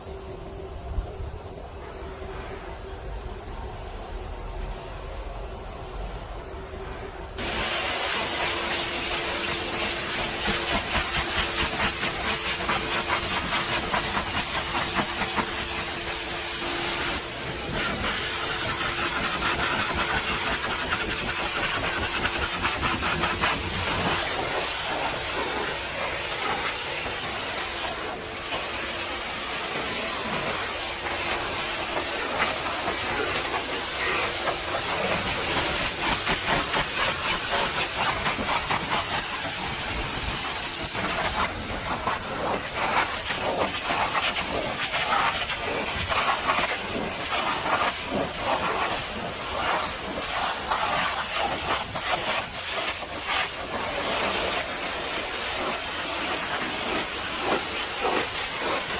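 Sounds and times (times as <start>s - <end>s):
pressure washer spraying: 7.4s - 58.9s.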